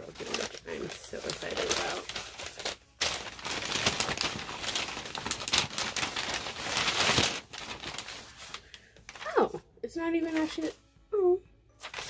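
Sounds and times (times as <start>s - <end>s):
paper wrapping crinkling: 0.0s - 9.5s, 10.2s - 10.8s, 11.8s - 12.0s.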